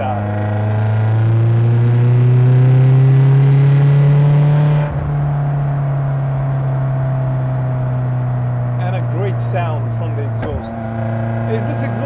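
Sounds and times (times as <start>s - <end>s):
car engine and exhaust revving: 0.0s - 12.0s.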